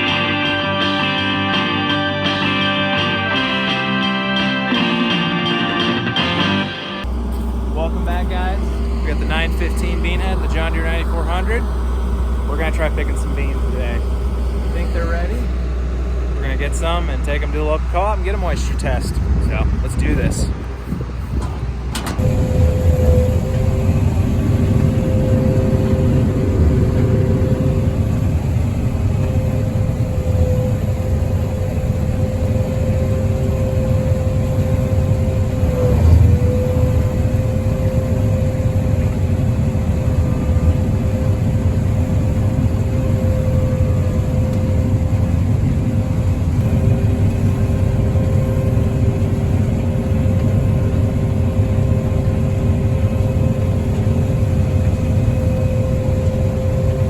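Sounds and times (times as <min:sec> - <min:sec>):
combine harvester running: 0:00.0 - 0:57.0
machine whine: 0:00.0 - 0:57.0.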